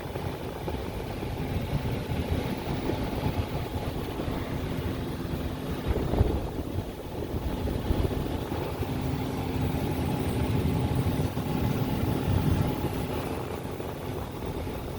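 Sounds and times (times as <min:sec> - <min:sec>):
air conditioner drone: 0:00.0 - 0:14.9
constant hum: 0:00.0 - 0:14.9.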